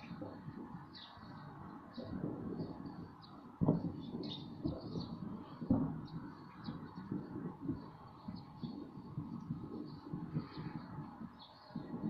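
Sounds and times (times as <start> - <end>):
birds chirping: 0.9 - 9.0, 9.6 - 12.0.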